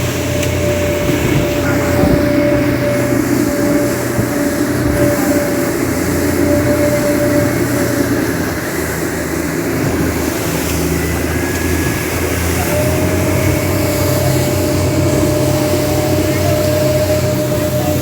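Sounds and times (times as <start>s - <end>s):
faint steady whine: 0.0s - 18.0s
speedboat engine drone: 0.0s - 18.0s.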